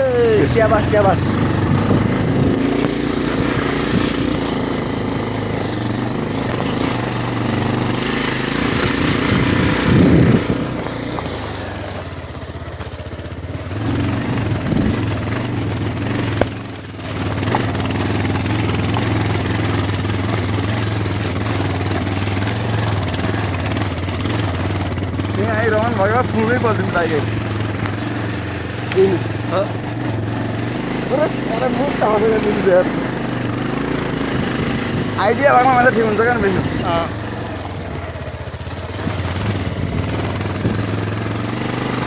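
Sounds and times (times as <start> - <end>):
motorcycle engine running: 0.0 - 42.0
rattle of rough gravel road: 0.0 - 42.0.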